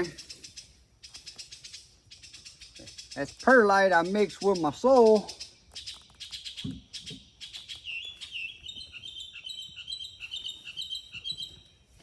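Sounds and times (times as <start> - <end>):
songbird chirping and trilling: 0.0 - 12.0.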